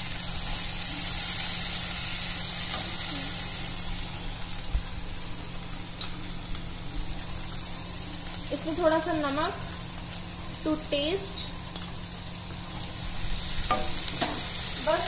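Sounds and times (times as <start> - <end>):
oil sizzling in a hot pan: 0.0 - 15.0.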